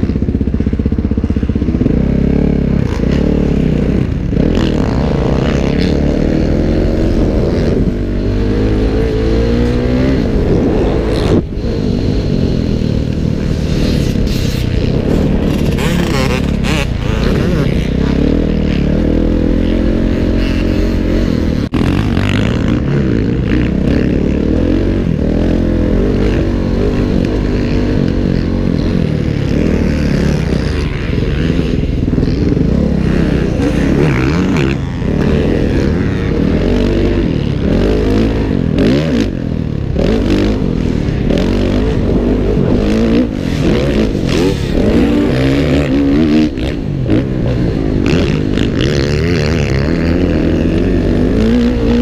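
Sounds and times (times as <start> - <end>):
motocross bike engine revving: 0.0 - 52.0
wind rush: 5.1 - 23.8, 24.4 - 52.0.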